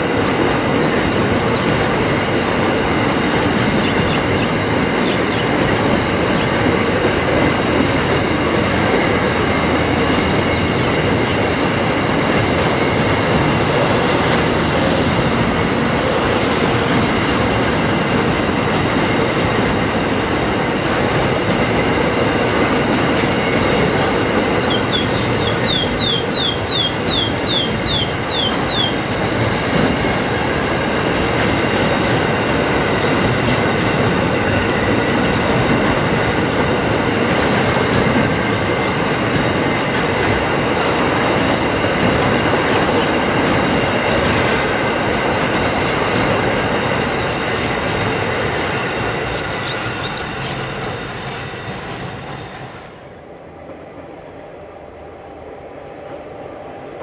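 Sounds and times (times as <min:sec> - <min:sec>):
train wagons rumbling and rattling: 0:00.0 - 0:57.0.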